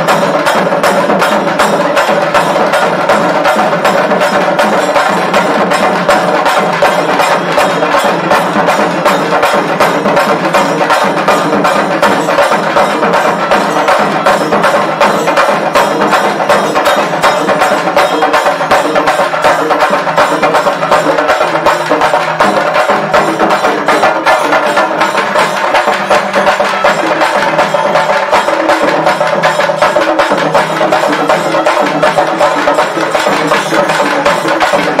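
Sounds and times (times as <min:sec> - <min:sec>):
drums beaten with sticks: 0:00.0 - 0:35.0.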